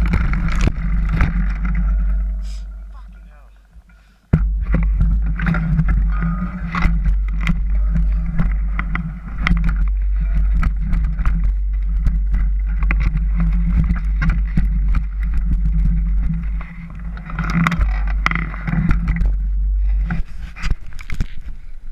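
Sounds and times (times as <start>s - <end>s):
bike rattling over rough ground: 0.0s - 21.9s
wind rumble on microphone: 0.0s - 21.9s.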